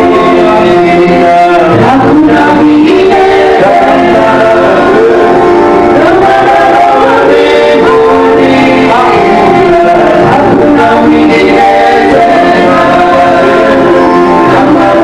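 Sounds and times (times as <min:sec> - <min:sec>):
worship music with group singing: 0:00.0 - 0:15.0.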